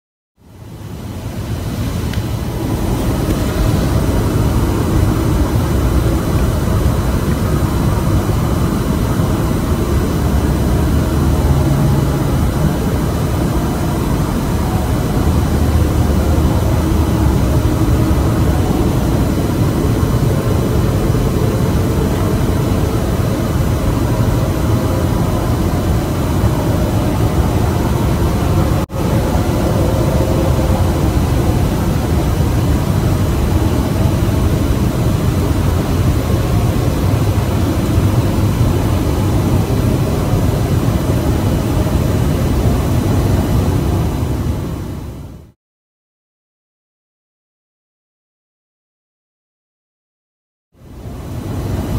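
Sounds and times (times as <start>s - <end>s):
low rumble with droning tones: 0.9s - 44.8s.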